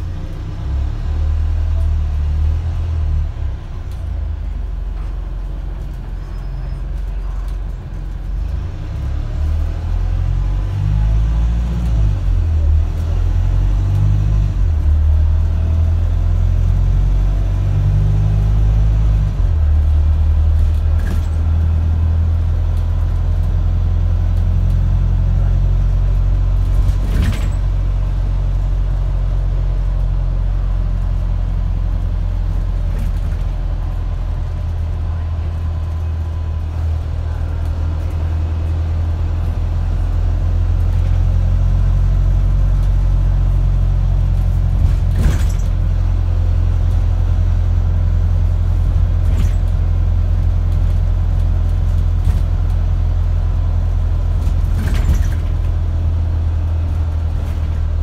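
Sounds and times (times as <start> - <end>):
bus engine accelerating: 0.0 - 58.0.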